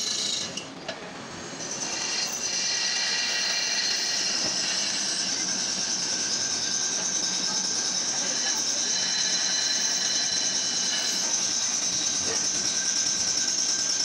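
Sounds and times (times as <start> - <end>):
drill press cutting metal: 0.0 - 0.8, 1.5 - 14.0.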